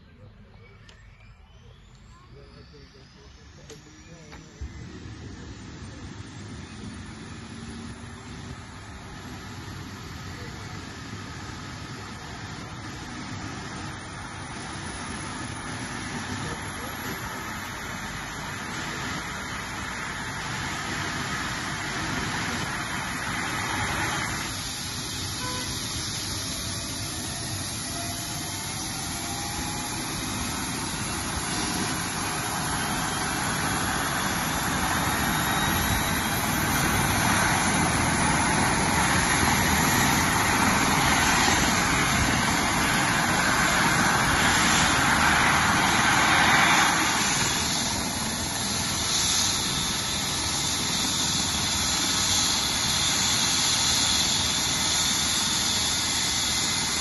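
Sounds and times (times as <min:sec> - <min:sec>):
helicopter turbine whine rising: 0:00.0 - 0:57.0
helicopter rotor noise: 0:01.6 - 0:57.0.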